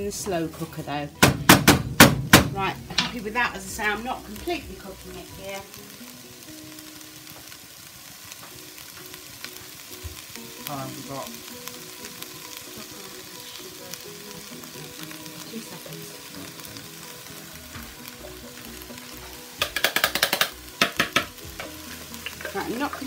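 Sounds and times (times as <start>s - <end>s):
vegetables sizzling in a pan: 0.0s - 23.0s
oil spitting crackles: 1.7s - 23.0s.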